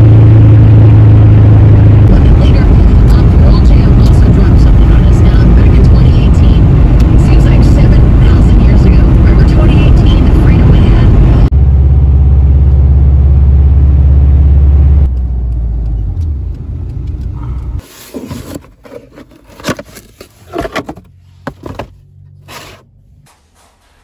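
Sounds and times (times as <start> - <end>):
car cabin road and engine rumble: 0.0 - 24.0.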